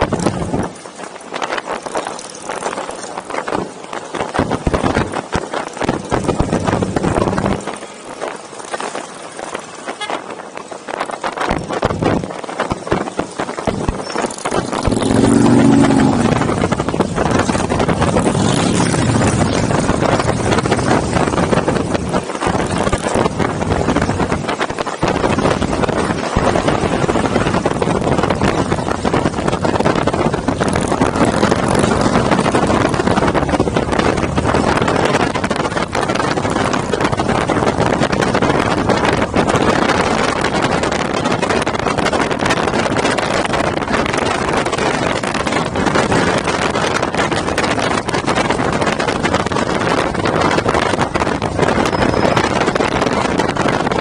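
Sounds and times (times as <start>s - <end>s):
motorcycles running: 0.0s - 54.0s.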